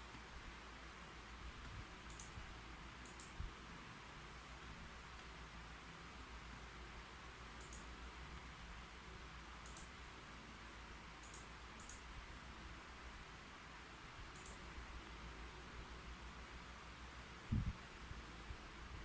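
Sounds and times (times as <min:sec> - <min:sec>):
low hiss: 0:00.0 - 0:19.0.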